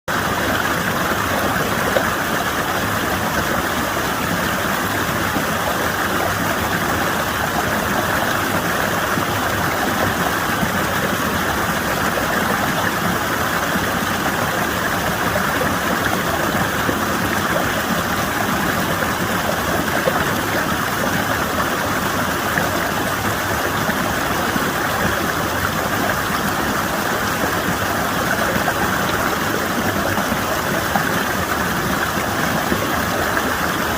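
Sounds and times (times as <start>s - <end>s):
water rushing down rock channel: 0.1s - 33.9s.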